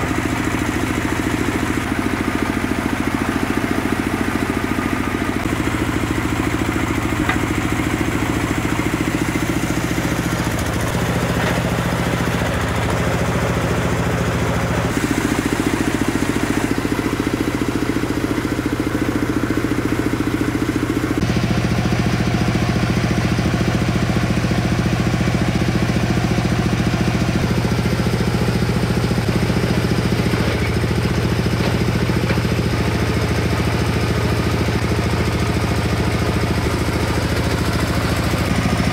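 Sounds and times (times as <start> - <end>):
drilling rig engine running: 0.0 - 38.9.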